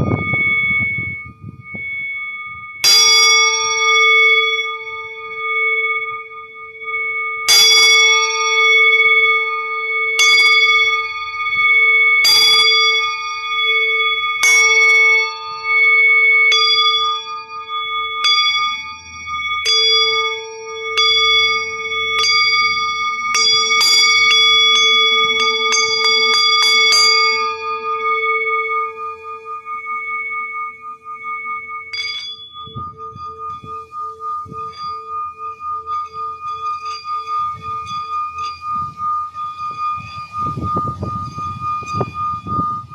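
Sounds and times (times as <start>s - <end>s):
metal singing bowl ringing: 0.0s - 42.9s.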